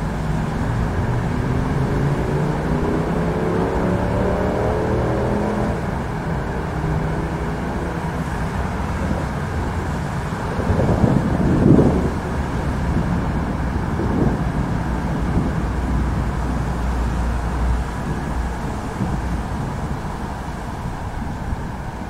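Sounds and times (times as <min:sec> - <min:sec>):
rolling thunder: 0:00.0 - 0:22.0
steady noise bed: 0:00.0 - 0:22.0.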